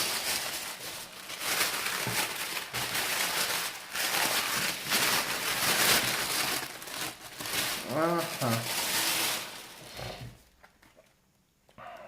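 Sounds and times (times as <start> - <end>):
packaging rustling and crinkling: 0.0 - 11.1.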